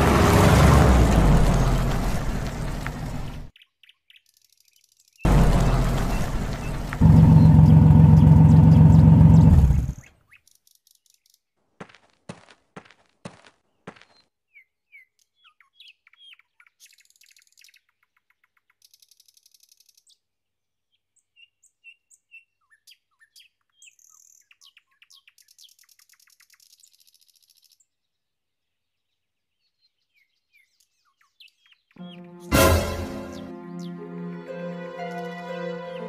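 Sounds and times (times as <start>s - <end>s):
songbirds chirping and trilling: 1.3s - 11.6s, 13.7s - 36.0s.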